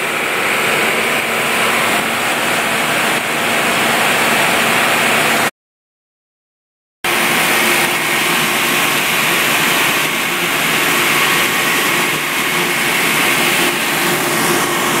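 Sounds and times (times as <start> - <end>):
heavy machinery whining drone: 0.0 - 5.5, 7.1 - 15.0.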